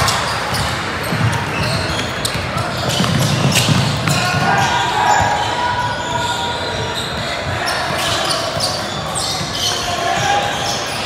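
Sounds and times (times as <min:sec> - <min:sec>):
basketball bouncing on court: 0:00.0 - 0:09.6
scattered voices: 0:00.0 - 0:11.0.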